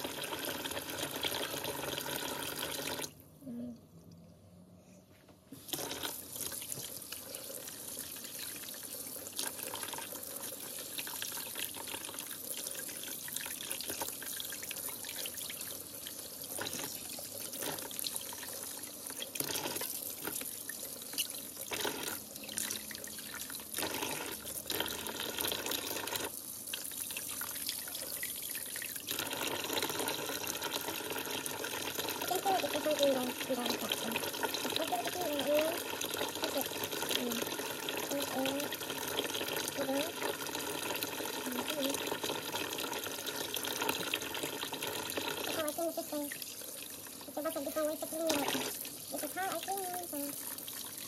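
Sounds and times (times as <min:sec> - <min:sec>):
tap water splashing in sink: 0:05.6 - 0:07.4, 0:08.2 - 0:51.0.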